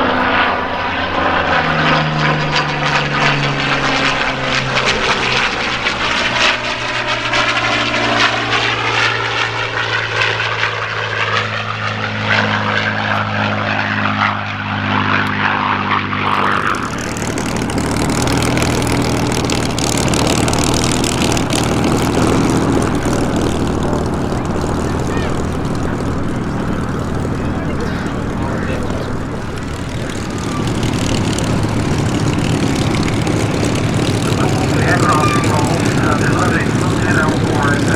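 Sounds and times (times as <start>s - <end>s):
propeller aircraft droning past: 0.0s - 37.9s
rough aircraft rumble: 0.0s - 37.9s.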